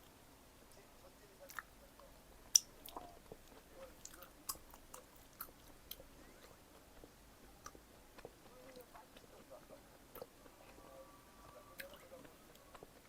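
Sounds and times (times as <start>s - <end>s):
chewing pizza: 0.7s - 13.0s.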